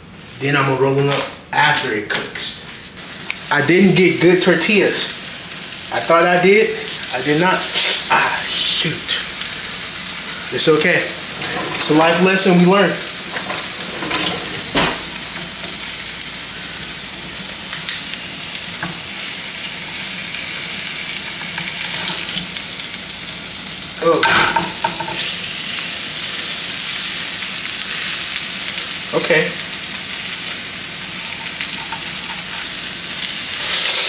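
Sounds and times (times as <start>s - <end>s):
tortillas sizzling in a pan: 4.4s - 12.2s, 12.9s - 34.0s.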